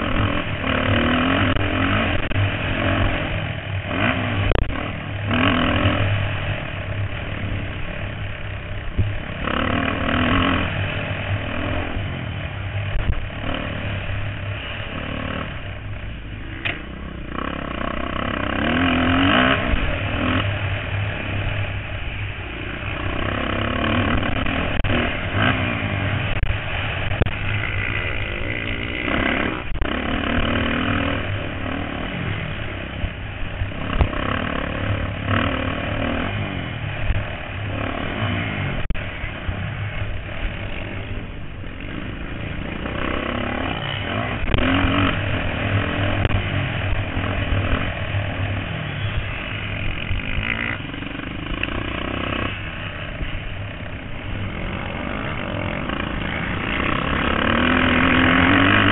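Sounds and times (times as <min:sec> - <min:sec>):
dirt bike engines revving: 0:00.0 - 0:58.9.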